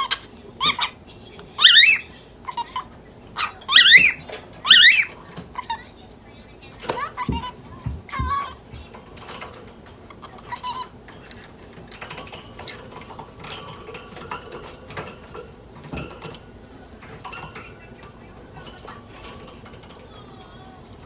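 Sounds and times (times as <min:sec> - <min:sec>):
parrots chirping: 0:00.0 - 0:21.0.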